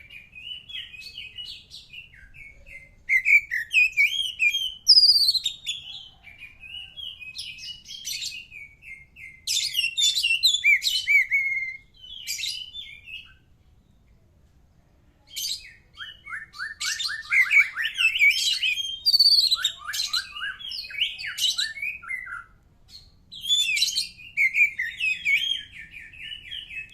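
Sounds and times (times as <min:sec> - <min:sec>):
bird singing whistled phrases: 0:00.0 - 0:13.4, 0:15.4 - 0:26.9.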